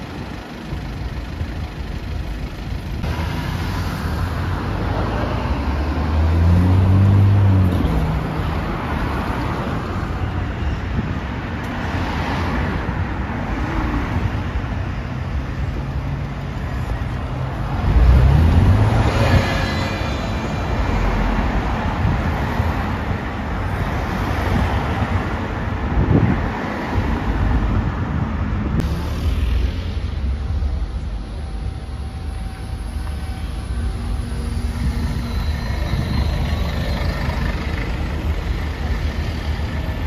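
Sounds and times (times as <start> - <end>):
bus engine pulling away: 0.0 - 27.8, 28.6 - 40.0
busy road traffic: 0.0 - 40.0.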